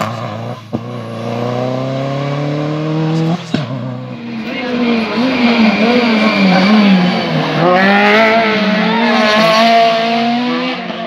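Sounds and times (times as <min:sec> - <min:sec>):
rally car engines revving: 0:00.0 - 0:11.0.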